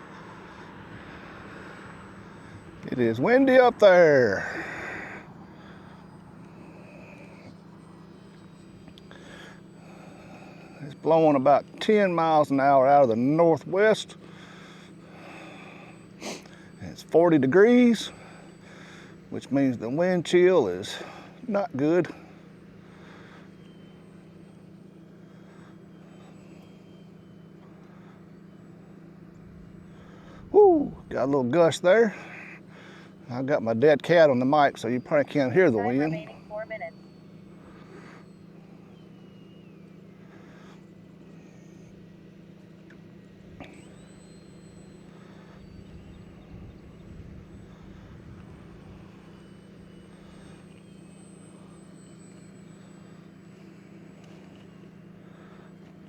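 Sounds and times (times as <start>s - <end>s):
distant model plane motor whine: 0.0s - 56.0s
steady low hum: 0.0s - 56.0s.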